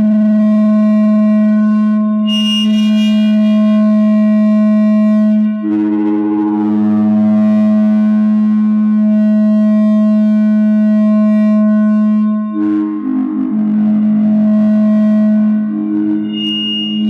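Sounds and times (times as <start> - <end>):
electronic feedback drone: 0.0 - 17.0.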